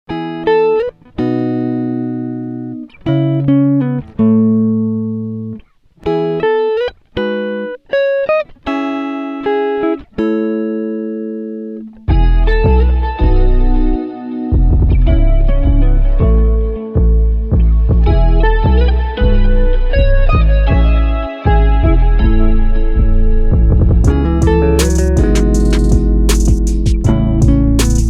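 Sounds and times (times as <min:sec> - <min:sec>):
solo guitar plucked notes: 0:00.1 - 0:28.0.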